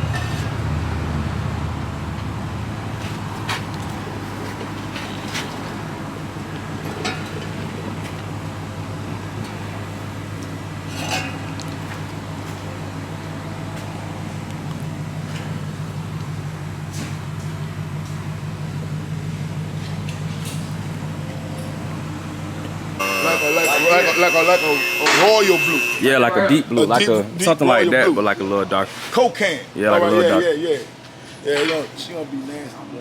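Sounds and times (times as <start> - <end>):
low mechanical hum: 0.0 - 27.4.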